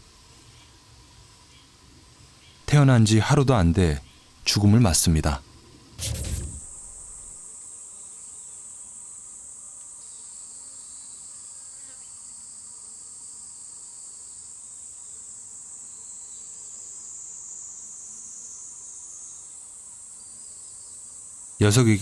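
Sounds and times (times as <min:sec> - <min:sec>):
high-pitched insect chorus: 0:00.0 - 0:22.0
lower insect song: 0:00.0 - 0:22.0.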